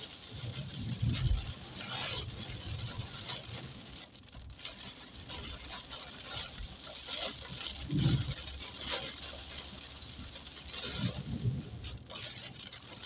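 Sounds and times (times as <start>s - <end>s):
heavy rain on a car: 0.0s - 13.0s
windshield wipers sweeping: 0.0s - 13.0s.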